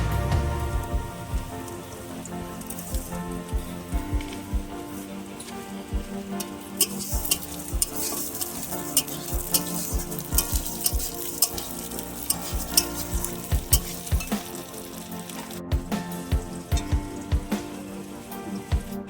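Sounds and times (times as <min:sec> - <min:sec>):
background music: 0:00.0 - 0:19.0
stirring clacks and knocks: 0:00.0 - 0:19.0
food sizzling in a pan: 0:00.6 - 0:18.9.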